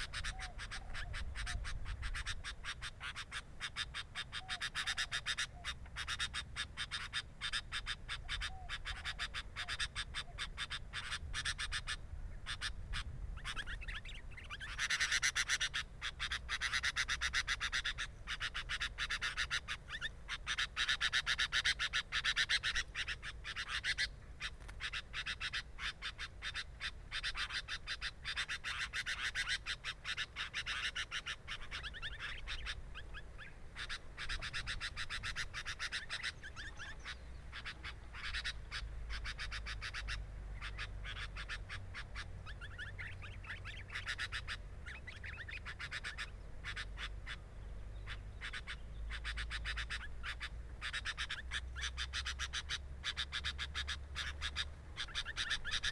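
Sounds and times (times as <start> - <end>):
nestlings chirping: 0.0 - 55.9.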